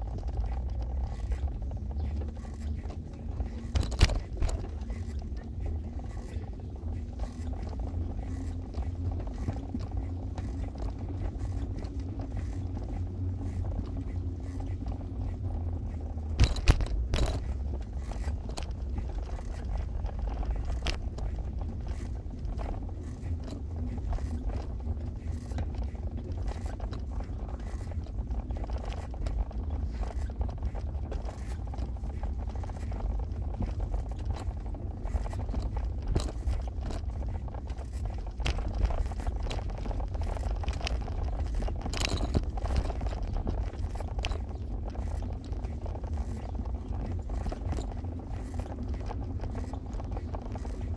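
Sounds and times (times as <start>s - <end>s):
knocks and rattles: 0.0s - 50.9s
vehicle driving rumble: 0.0s - 50.9s.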